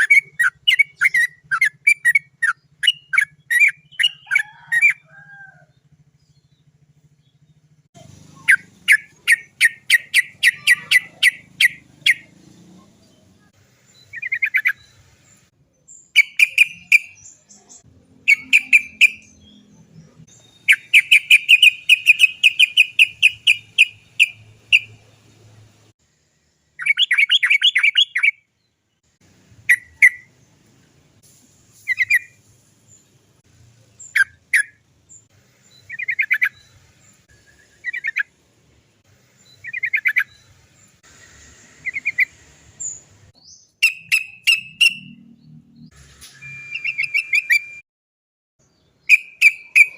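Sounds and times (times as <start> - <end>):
bird chattering song: 0.0 - 25.5, 26.8 - 28.5, 29.6 - 30.6, 31.8 - 33.2, 33.8 - 38.3, 39.3 - 41.0, 41.6 - 45.9, 48.6 - 49.9.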